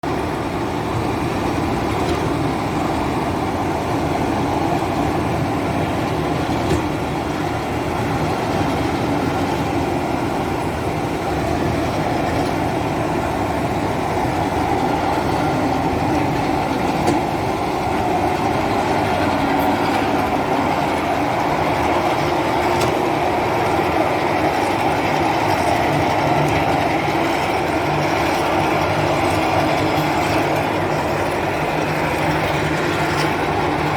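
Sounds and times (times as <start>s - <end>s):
machine engine running: 0.0s - 33.9s.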